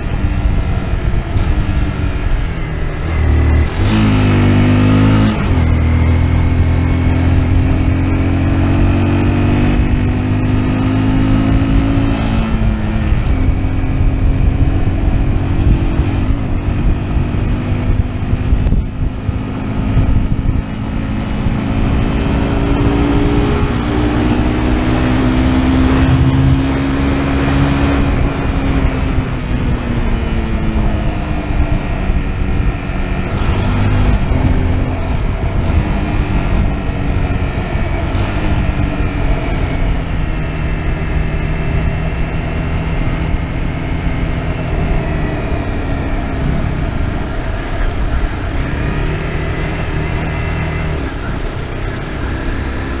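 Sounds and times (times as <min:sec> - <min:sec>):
low wind rumble: 0:00.0 - 0:53.0
motorcycle engine revving: 0:00.0 - 0:53.0.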